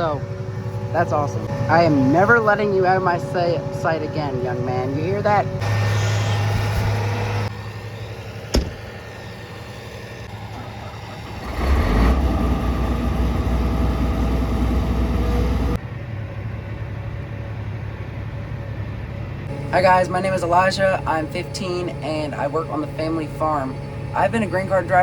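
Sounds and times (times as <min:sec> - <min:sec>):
farm machinery engine running: 0:00.0 - 0:25.0.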